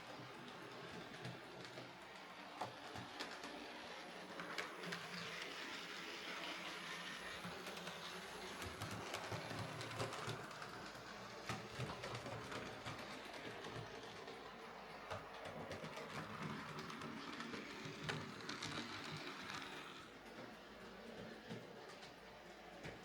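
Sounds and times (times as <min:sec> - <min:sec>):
wheels clicking on rails: 0:00.0 - 0:23.0
model locomotive motor whirr: 0:00.2 - 0:20.5.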